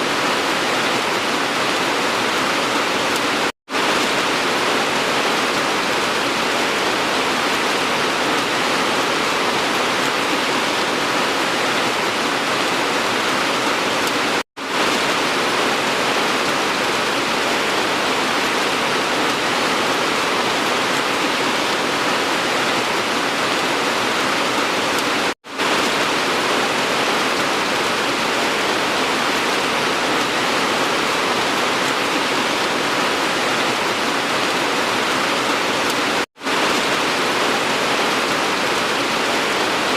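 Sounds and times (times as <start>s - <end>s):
dense rain hiss: 0.0s - 39.9s.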